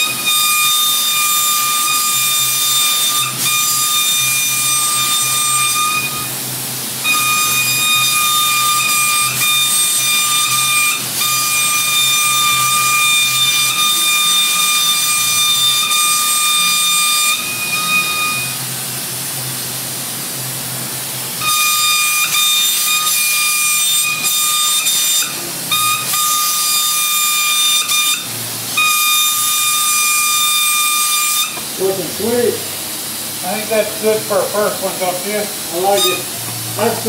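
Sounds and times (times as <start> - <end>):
spray gun hissing with whistle: 0.0 - 6.4, 7.0 - 18.8, 21.4 - 32.6, 33.4 - 37.0.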